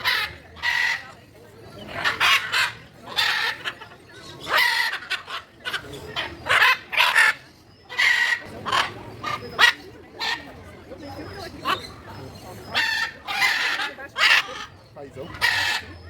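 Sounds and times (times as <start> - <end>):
large birds calling: 0.0 - 16.0.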